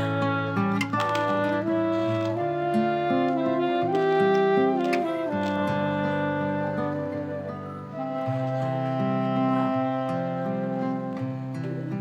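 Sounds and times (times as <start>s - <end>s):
acoustic guitar picked notes: 0.0s - 12.0s.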